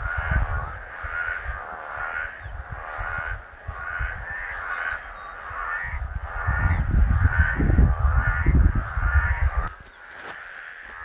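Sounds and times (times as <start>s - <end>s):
low rumble on microphone: 0.0s - 9.9s
frogs chorusing: 0.0s - 11.0s.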